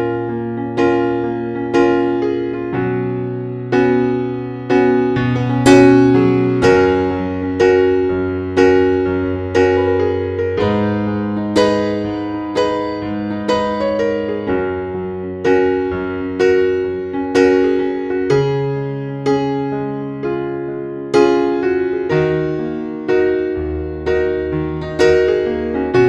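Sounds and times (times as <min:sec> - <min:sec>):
electric piano chords: 0:00.0 - 0:26.0.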